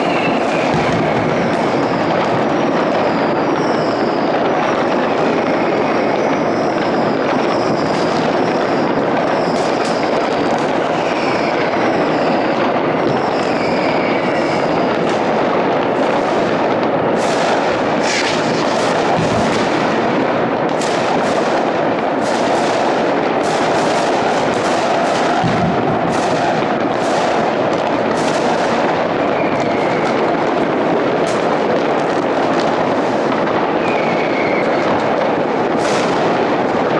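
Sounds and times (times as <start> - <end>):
falling firework whistles: 0.0 - 36.9
fireworks bangs: 0.0 - 36.9
sharp firework cracks: 0.0 - 36.9.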